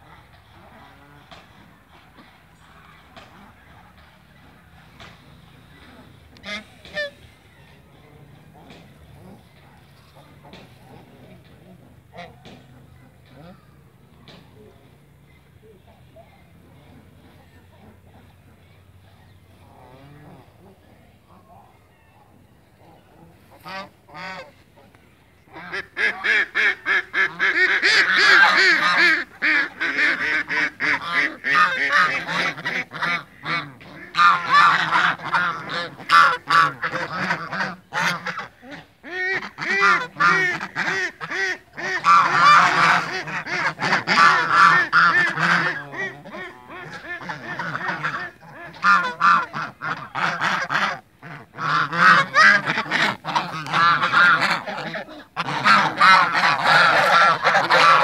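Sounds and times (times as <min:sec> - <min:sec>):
geese honking: 0:00.0 - 0:14.7, 0:15.4 - 0:58.0.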